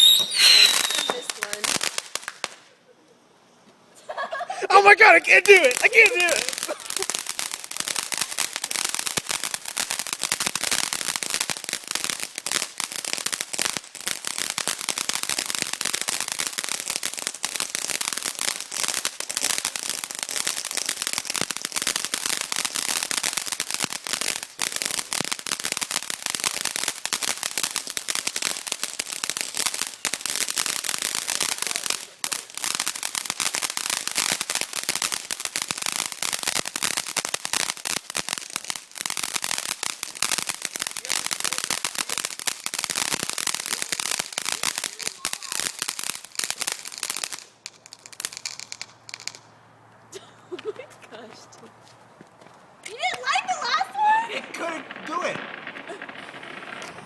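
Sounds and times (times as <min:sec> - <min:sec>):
firecrackers crackling: 0:00.0 - 0:02.9, 0:04.0 - 0:51.8, 0:52.6 - 0:57.0.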